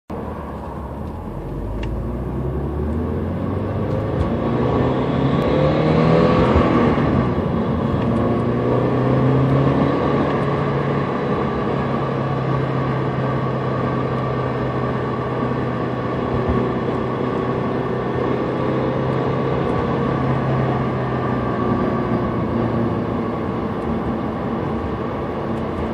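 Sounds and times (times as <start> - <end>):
supercharger whine: 0.1 - 25.9
car engine revving: 0.3 - 25.9.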